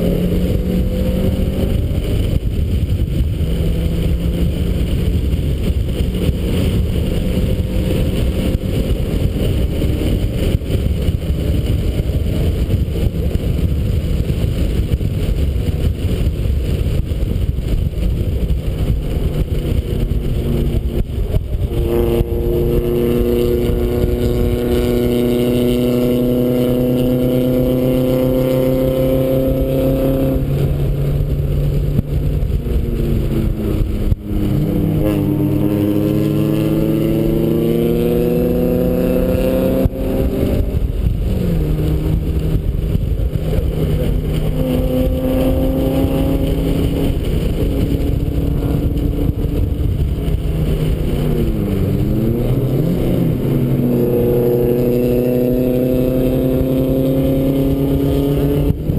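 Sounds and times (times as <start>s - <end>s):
car engine running hard: 0.0s - 58.9s
wind rush: 0.0s - 58.9s.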